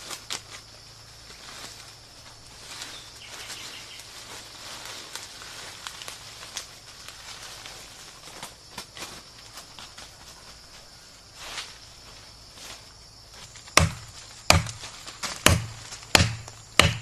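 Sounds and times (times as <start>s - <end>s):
dry leaves rustling: 0.0s - 16.8s
footsteps crunching on dry leaves: 0.0s - 17.0s
high insect drone: 0.0s - 17.0s.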